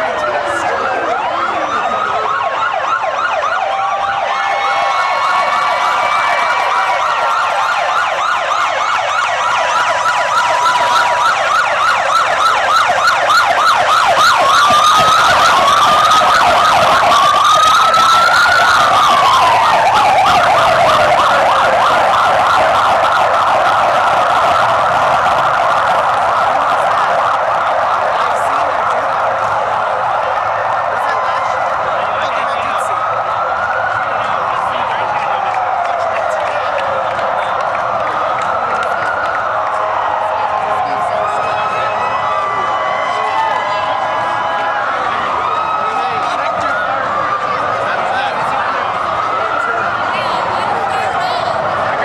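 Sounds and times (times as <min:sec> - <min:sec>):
siren yelping and wailing: 0:00.0 - 0:52.0.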